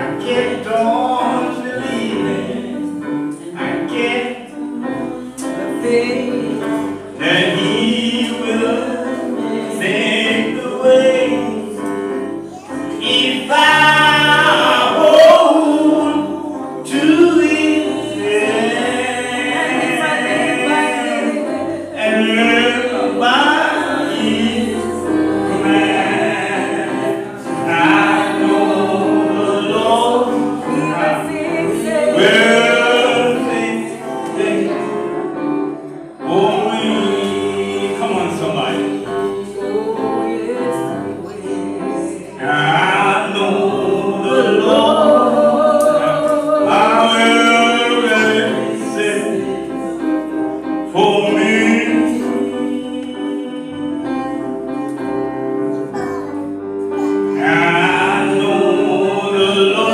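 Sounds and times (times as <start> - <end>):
choir singing gospel song: 0.0 - 59.9.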